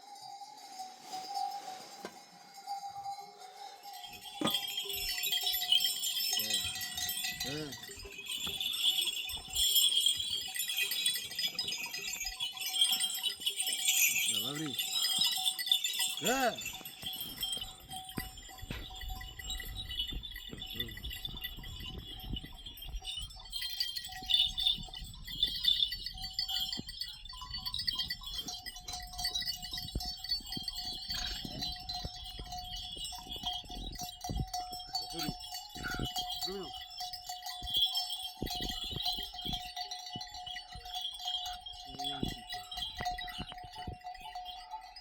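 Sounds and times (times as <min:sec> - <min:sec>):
animal bells clinking: 0:00.0 - 0:45.0.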